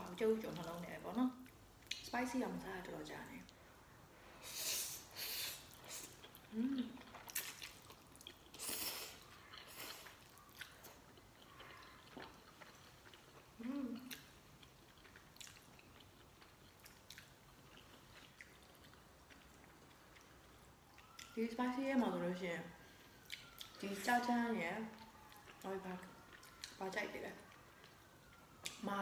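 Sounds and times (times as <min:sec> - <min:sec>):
soft wet chewing: 0:00.1 - 0:02.1, 0:05.1 - 0:29.0.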